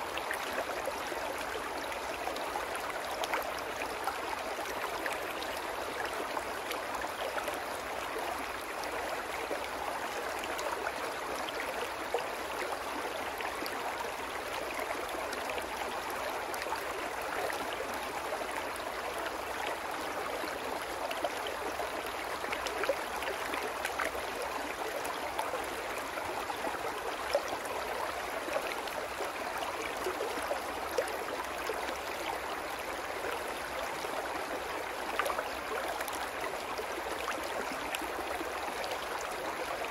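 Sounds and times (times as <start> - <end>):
brook babbling over rocks: 0.0 - 39.9.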